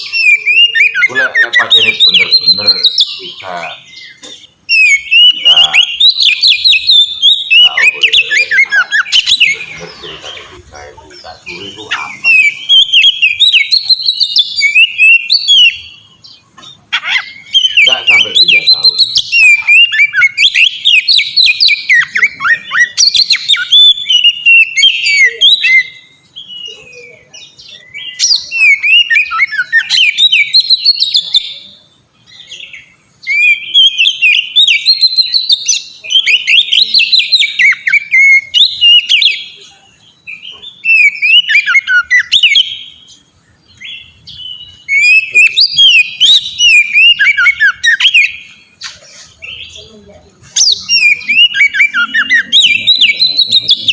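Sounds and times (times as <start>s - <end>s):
bird singing whistles and chirps: 0.0s - 10.4s, 11.2s - 16.4s, 17.0s - 49.9s, 50.5s - 53.9s.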